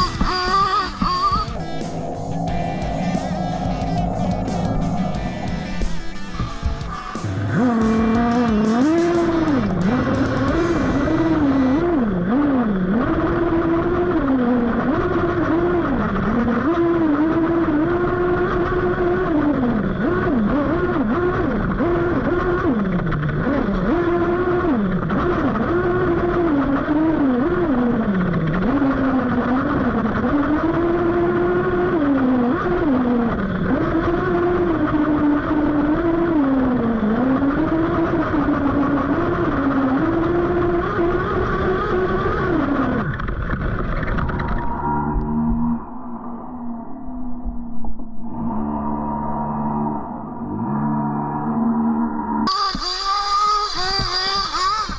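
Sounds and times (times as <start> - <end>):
model car engine revving: 0.0 - 5.9, 7.4 - 45.7, 50.5 - 54.9.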